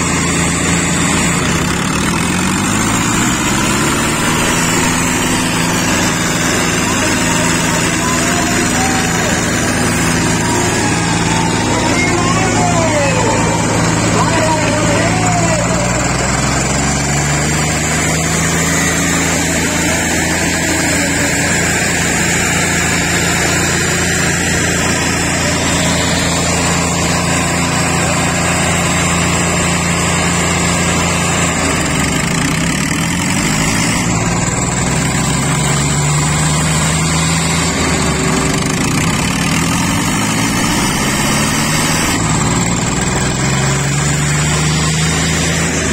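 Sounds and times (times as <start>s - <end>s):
tractor diesel engines under load: 0.0s - 45.9s.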